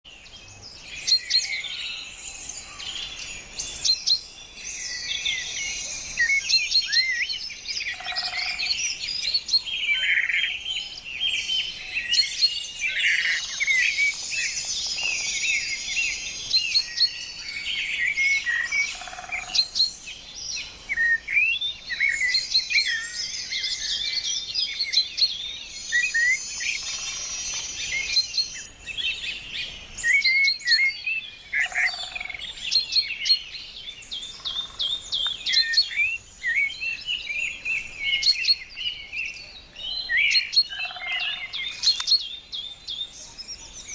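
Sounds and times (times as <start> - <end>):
chorus of birds chirping: 0.0 - 43.9.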